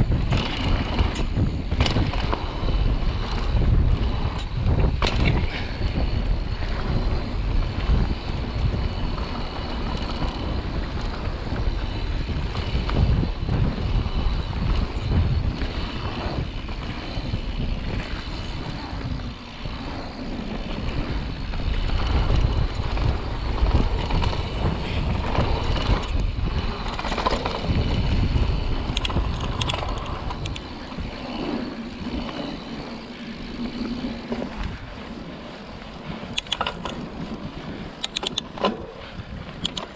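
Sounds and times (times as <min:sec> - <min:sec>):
bike knocking and rattling: 0:00.0 - 0:39.9
bike tyres rolling on dirt: 0:00.0 - 0:39.9
wind buffeting microphone: 0:00.0 - 0:39.9.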